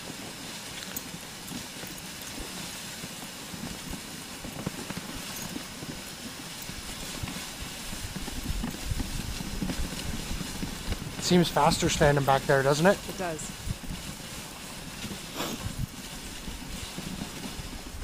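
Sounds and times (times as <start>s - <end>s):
dogs' paws running: 0.0s - 18.0s
sled runners hissing over snow: 0.0s - 18.0s.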